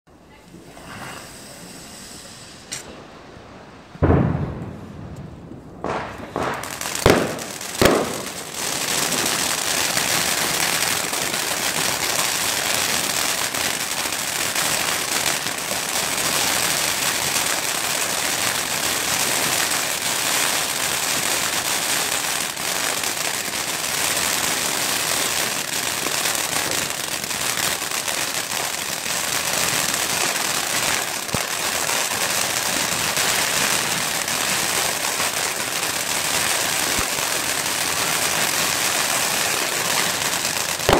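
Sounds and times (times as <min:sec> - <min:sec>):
firework sparks hissing: 0:00.5 - 0:03.6, 0:06.0 - 0:40.9
firework bangs: 0:00.8 - 0:40.9.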